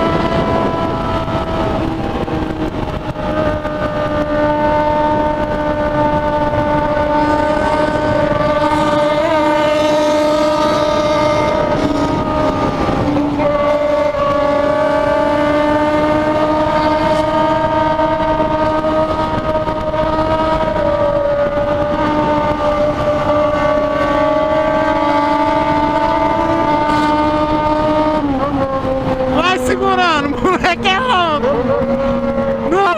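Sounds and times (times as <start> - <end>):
motorcycle engine at high revs: 0.0 - 32.9.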